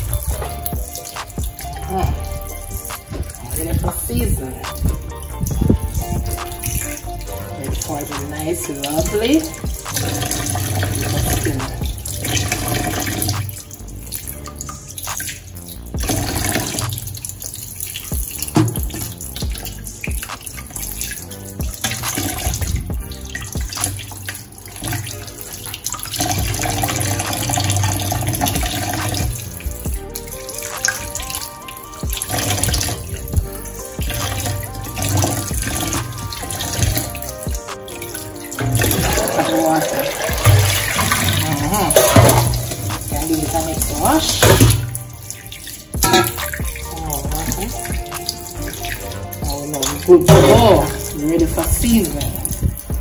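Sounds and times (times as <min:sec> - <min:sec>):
hands rubbing chicken in water: 0:00.0 - 0:53.0
tap water splashing into bowl: 0:00.0 - 0:53.0.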